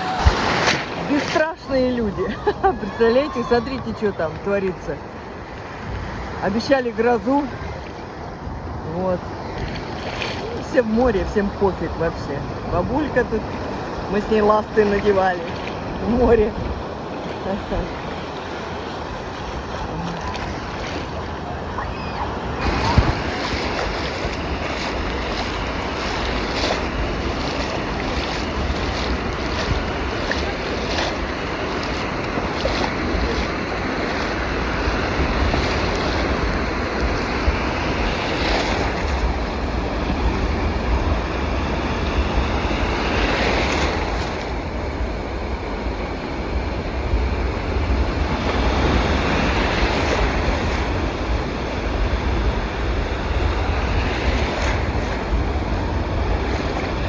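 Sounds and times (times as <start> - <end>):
surf breaking on beach: 0.0 - 57.0
wind buffeting microphone: 0.0 - 57.0.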